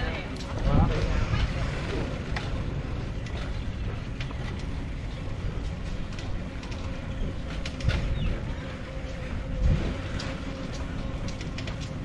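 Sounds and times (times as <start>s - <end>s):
bicycle rolling on pavement: 0.0s - 12.0s
bike clicks and rattles: 0.0s - 12.0s
wind rumbling on microphone: 0.0s - 12.0s.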